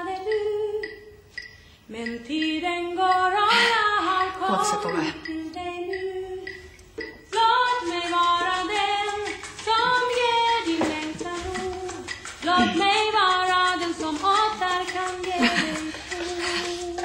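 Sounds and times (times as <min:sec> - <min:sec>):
woman singing slow melody: 0:00.0 - 0:01.2, 0:01.9 - 0:17.0.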